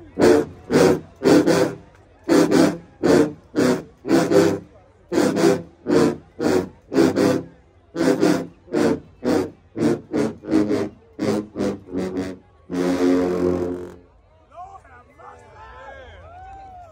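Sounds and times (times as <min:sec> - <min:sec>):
sousaphones playing staccato blasts: 0:00.0 - 0:14.1.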